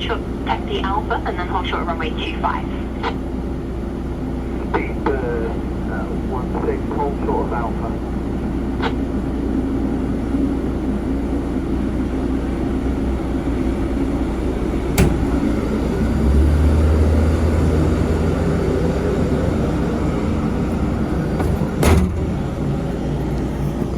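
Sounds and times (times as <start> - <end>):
jet engines rumbling: 0.0 - 23.9.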